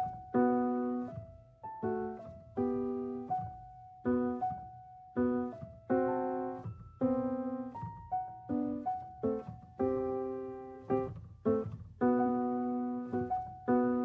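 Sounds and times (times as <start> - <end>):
jazz piano chords ringing: 0.0 - 14.0.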